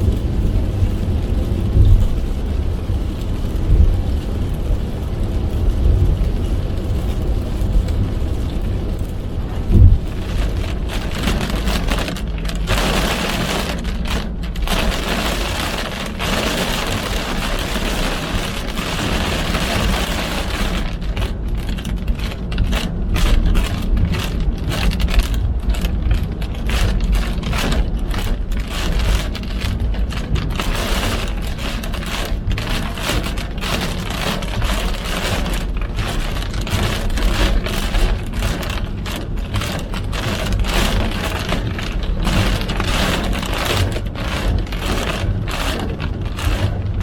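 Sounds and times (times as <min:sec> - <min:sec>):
car road and engine rumble: 0:00.0 - 0:47.0
rain pattering on car: 0:00.0 - 0:47.0.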